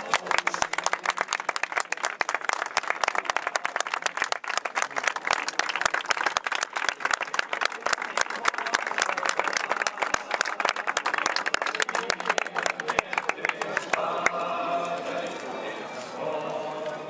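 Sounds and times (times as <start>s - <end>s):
crowd applauding: 0.0s - 15.8s.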